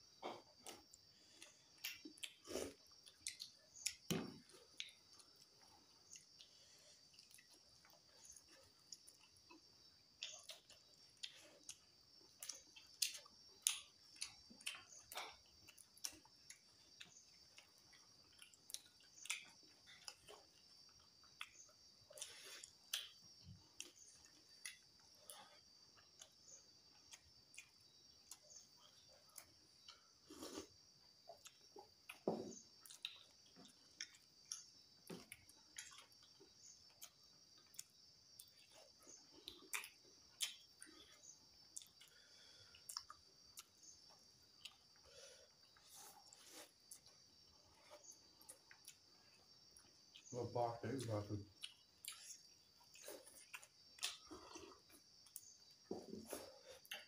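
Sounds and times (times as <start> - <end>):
wet chewing and lip smacks: 0.6 - 50.3, 51.5 - 56.0, 56.7 - 57.0.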